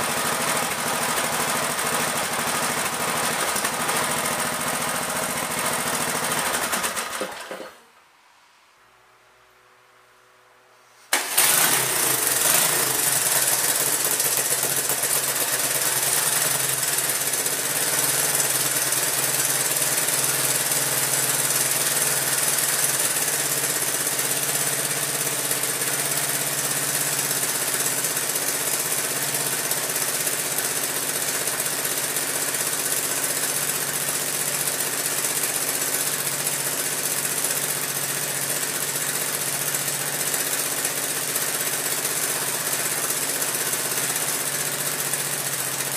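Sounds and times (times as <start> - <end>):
engine starting and idling: 0.0 - 7.9, 11.1 - 45.9.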